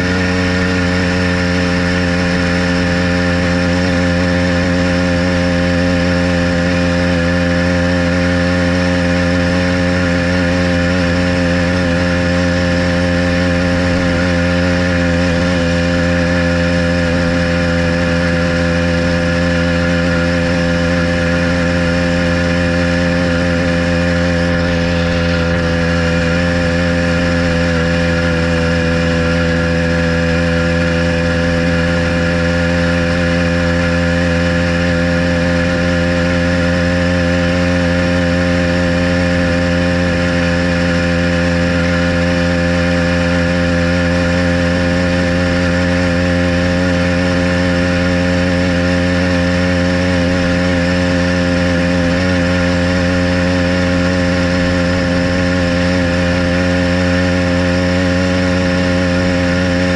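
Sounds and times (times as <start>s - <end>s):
small engine running steadily: 0.0s - 59.9s.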